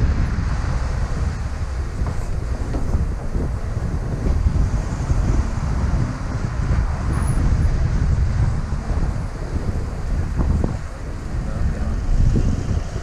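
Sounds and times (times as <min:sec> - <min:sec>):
car road and engine rumble: 0:00.0 - 0:13.0
wind on microphone: 0:00.0 - 0:13.0.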